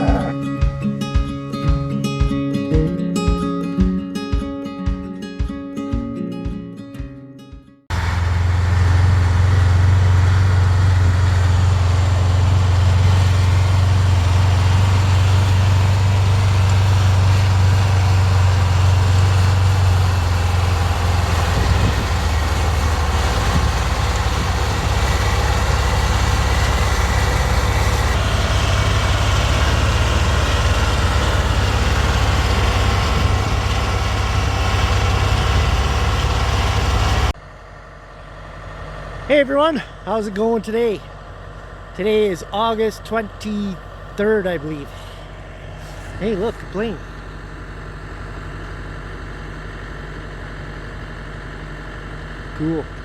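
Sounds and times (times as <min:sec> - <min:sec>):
swather engine low drone: 0:00.0 - 0:00.5, 0:07.9 - 0:53.0.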